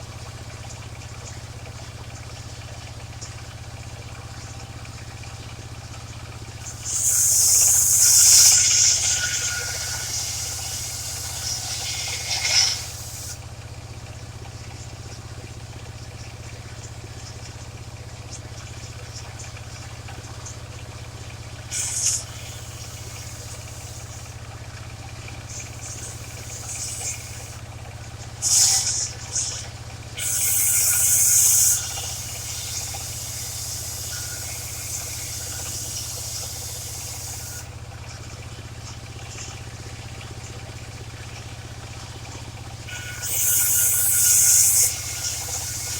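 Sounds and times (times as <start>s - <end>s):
sawmill engine humming: 3.0s - 14.3s, 17.7s - 45.9s.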